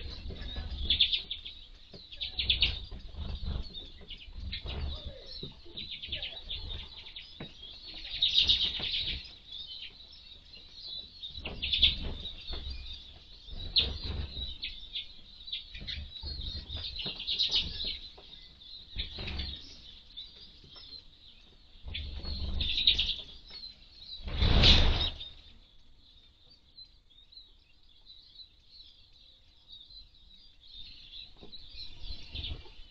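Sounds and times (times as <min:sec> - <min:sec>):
birds twittering: 0:00.0 - 0:32.9.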